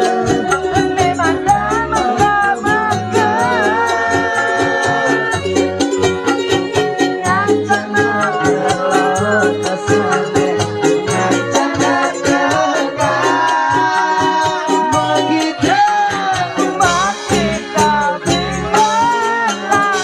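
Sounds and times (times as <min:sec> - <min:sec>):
man singing through pa: 0:00.0 - 0:06.1, 0:07.0 - 0:20.0
band playing with beat: 0:00.0 - 0:20.0.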